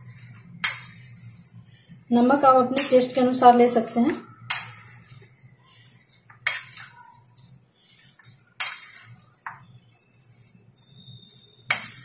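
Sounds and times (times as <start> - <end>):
spoon scraping in bowl: 0.0 - 12.0.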